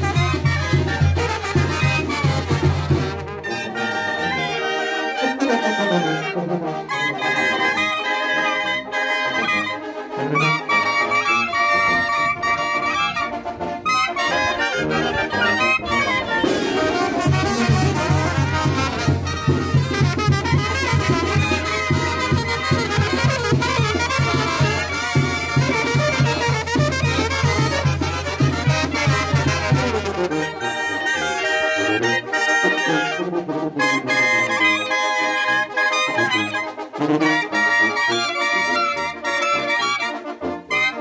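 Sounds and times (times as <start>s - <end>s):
brass band music: 0.0s - 41.0s.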